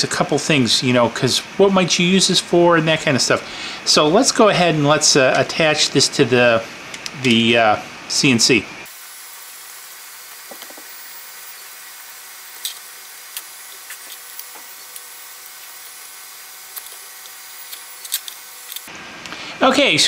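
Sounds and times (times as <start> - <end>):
steady hiss: 0.0 - 18.9.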